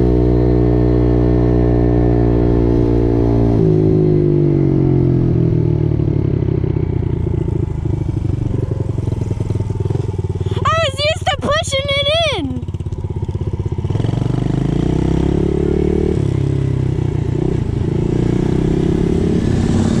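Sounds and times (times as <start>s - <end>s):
dirt bike engine running: 3.7s - 20.0s.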